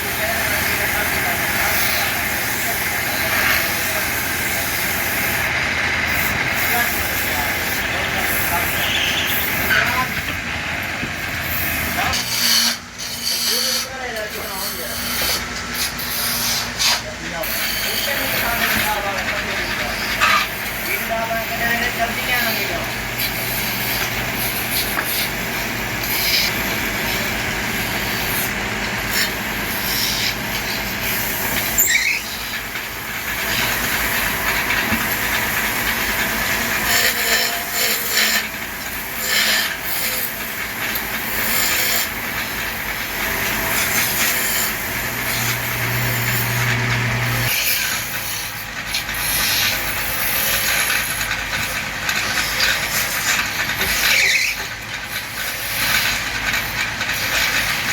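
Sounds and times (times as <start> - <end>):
chisel scraping spinning wood: 0.0 - 57.9
lathe motor hum: 0.0 - 57.9.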